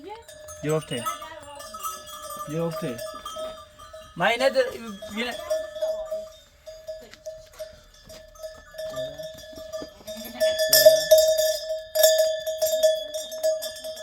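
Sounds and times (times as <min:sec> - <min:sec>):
livestock bells clanking: 0:00.0 - 0:14.0.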